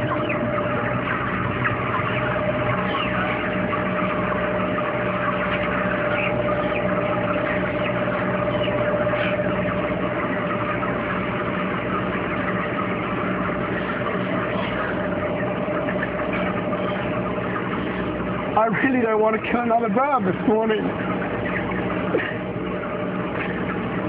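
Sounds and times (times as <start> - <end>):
chickens cheeping and clucking: 0.0 - 24.0
steady machine hum: 0.0 - 24.0.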